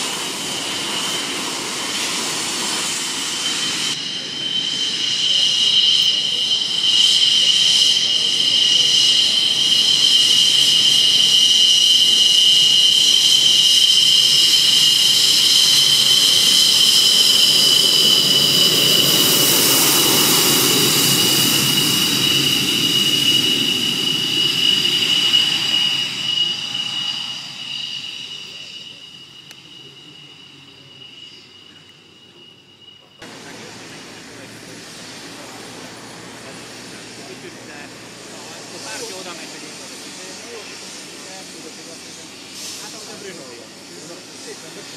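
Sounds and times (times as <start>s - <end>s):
jet engines whining: 0.0s - 44.9s
jet rushing past: 0.0s - 44.9s.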